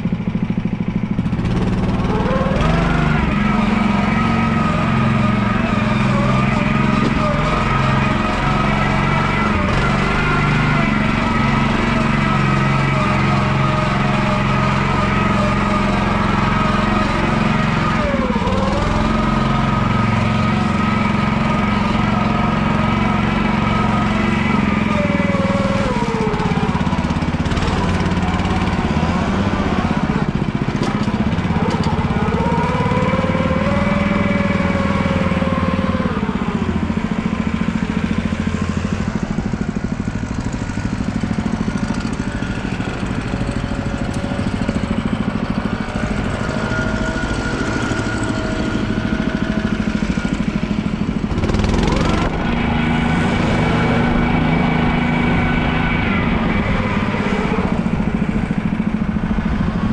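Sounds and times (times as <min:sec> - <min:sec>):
ride-on machine engine running: 0:00.0 - 0:59.9.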